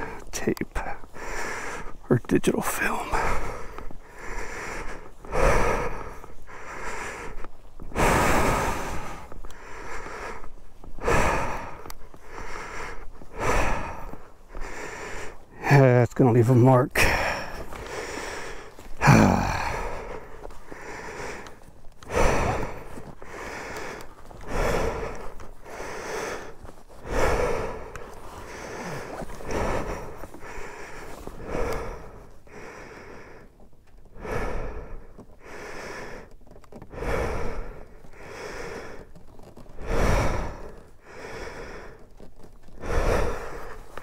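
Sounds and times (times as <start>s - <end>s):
man breathing heavily: 0.0s - 44.0s.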